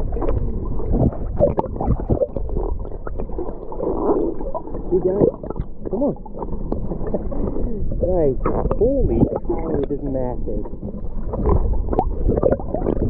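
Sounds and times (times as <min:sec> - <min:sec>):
water sloshing and gurgling: 0:00.0 - 0:13.0.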